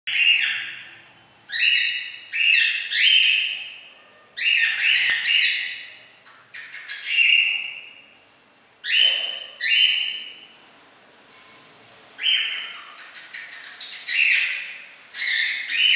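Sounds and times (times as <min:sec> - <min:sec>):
cockatiel harsh calls: 0:00.1 - 0:07.9, 0:08.8 - 0:10.4, 0:12.2 - 0:15.9.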